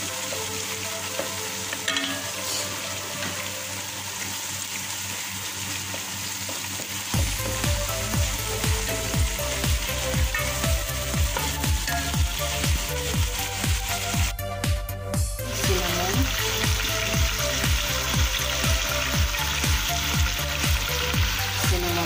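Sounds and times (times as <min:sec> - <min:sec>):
background music with steady beat: 0:00.0 - 0:04.2, 0:05.8 - 0:22.0
food sizzling in a pot: 0:00.0 - 0:22.0.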